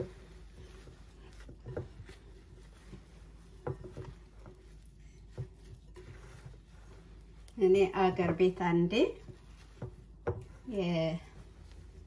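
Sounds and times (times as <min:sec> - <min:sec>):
hands squishing bread: 0:00.0 - 0:12.0.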